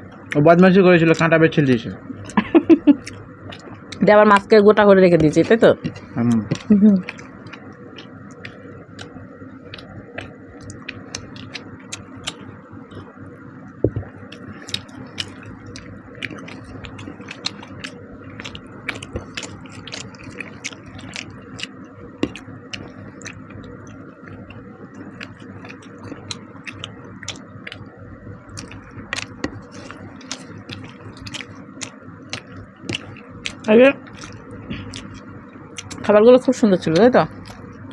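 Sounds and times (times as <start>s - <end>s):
chewing: 2.2s - 4.5s, 5.2s - 13.1s, 14.0s - 36.1s, 36.8s - 37.9s.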